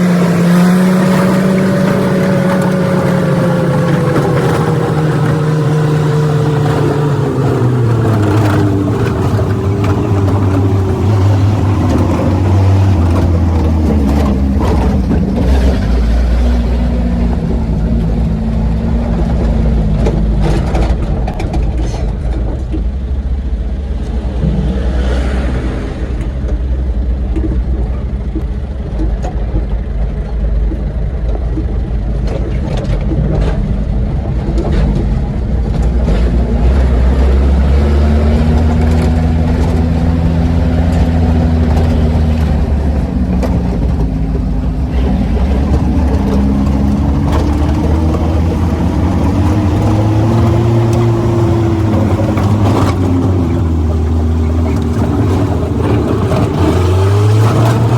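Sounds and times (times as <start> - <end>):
knocks and rattles: 0.0 - 23.4, 26.2 - 57.9
truck engine running: 0.0 - 57.9.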